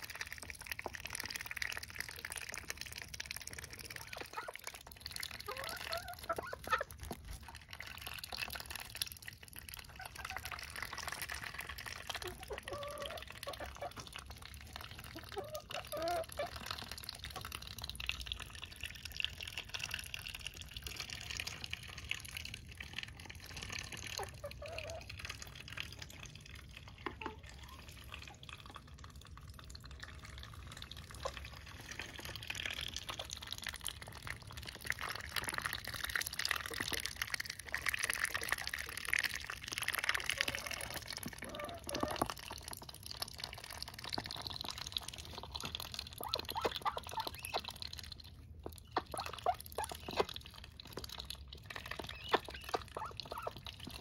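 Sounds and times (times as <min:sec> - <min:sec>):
ducks dabbling in water: 0:00.0 - 0:54.0.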